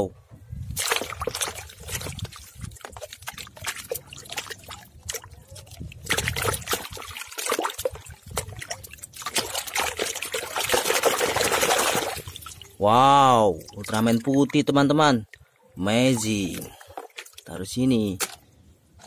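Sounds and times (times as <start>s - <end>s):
water sloshing and splashing: 0.6s - 19.0s.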